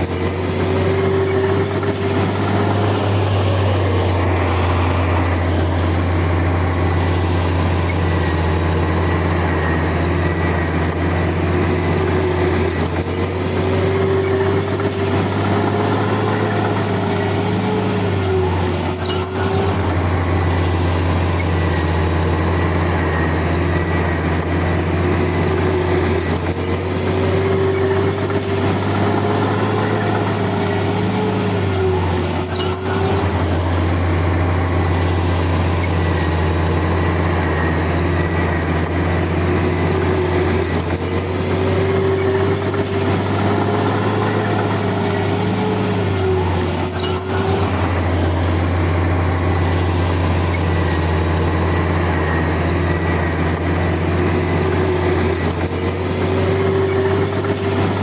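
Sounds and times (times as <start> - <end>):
bulldozer diesel engine running: 0.0 - 58.0
engine whine: 0.0 - 58.0.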